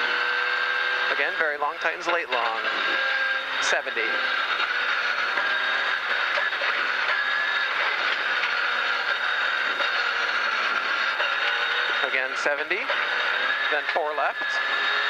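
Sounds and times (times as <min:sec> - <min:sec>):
car engine running under load: 0:00.0 - 0:15.0.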